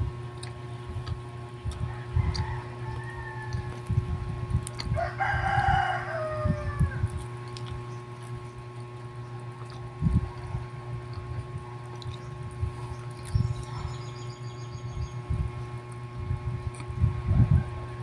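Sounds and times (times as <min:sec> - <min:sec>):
chewing bread: 0:00.0 - 0:14.1, 0:15.6 - 0:17.2
electrical hum: 0:00.0 - 0:18.0.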